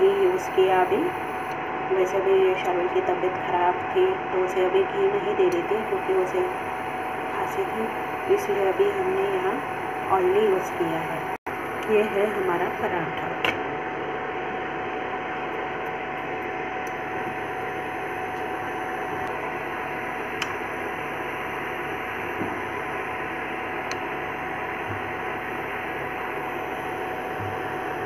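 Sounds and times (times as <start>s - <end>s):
cooktop cooling fan hum: 0.0s - 28.0s
thin steady whine: 0.0s - 28.0s.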